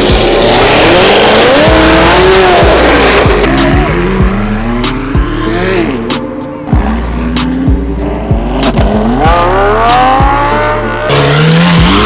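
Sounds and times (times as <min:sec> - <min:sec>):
car engine revving: 0:00.0 - 0:12.0
music with thumping bass beat: 0:00.0 - 0:12.0.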